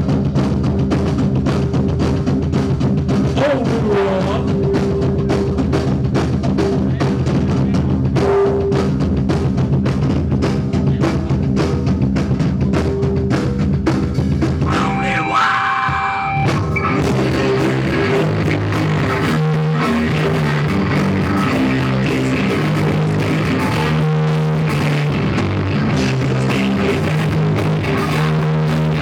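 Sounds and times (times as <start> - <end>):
drum kit beating: 0.0 - 29.0
rock band playing live: 0.0 - 29.0.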